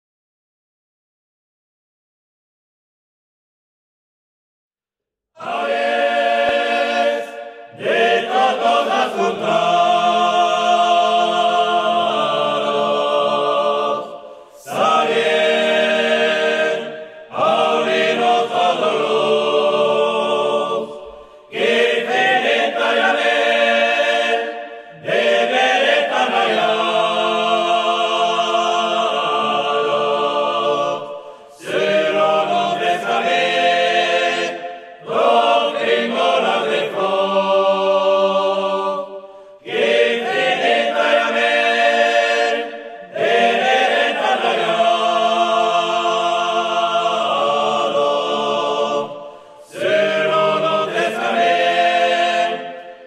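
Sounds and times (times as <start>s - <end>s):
men singing a cappella: 5.4s - 53.0s.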